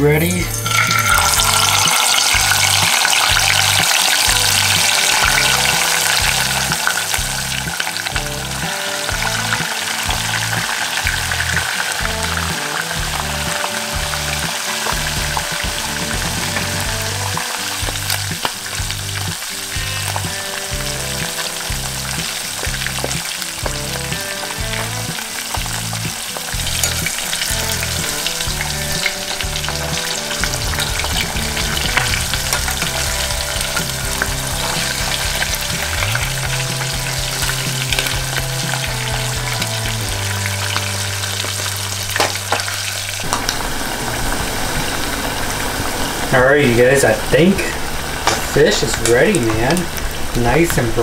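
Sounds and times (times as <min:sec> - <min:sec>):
fish deep-frying in oil: 0:00.4 - 0:51.0.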